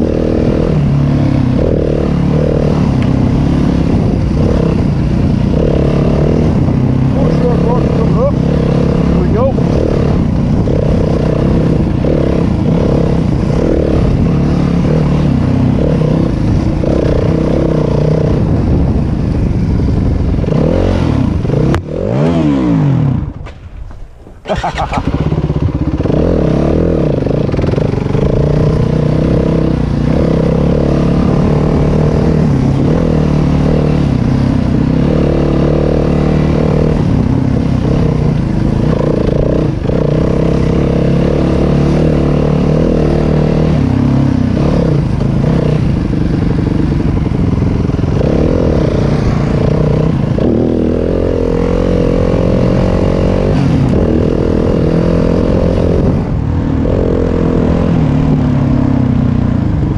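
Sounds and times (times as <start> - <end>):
dirt bike engine revving: 0.0 - 59.5.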